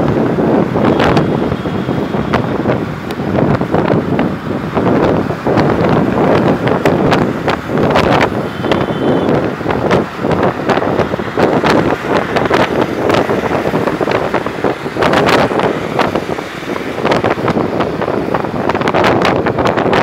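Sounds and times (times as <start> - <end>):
road and traffic noise: 0.0 - 20.0
wind buffeting microphone: 0.0 - 20.0.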